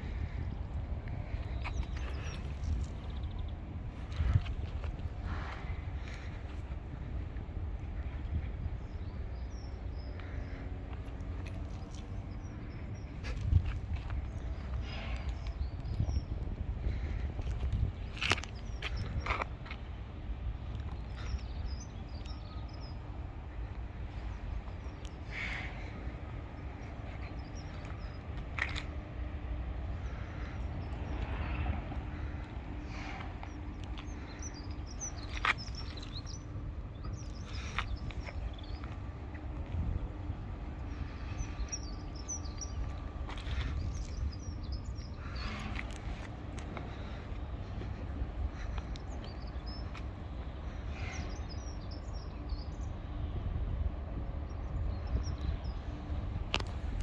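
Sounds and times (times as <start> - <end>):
birds chirping: 0.0 - 53.4
steady low rumble: 0.0 - 57.0.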